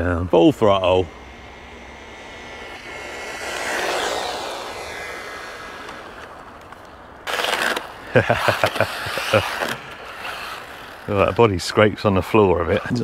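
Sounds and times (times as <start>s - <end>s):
loud rush of noise: 0.2s - 11.5s
electric motor whine: 0.4s - 13.0s.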